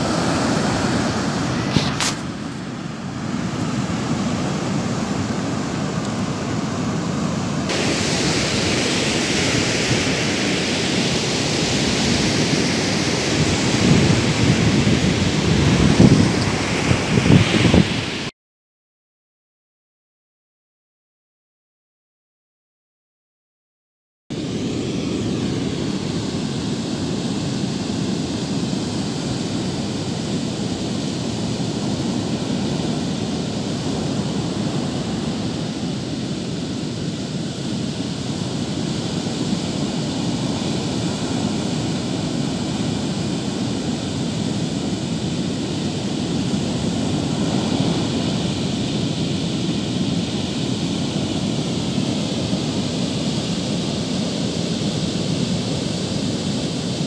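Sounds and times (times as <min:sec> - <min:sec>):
surf breaking on beach: 0:00.0 - 0:18.3, 0:24.4 - 0:57.0
wind rumbling on microphone: 0:00.0 - 0:18.3, 0:24.4 - 0:57.0.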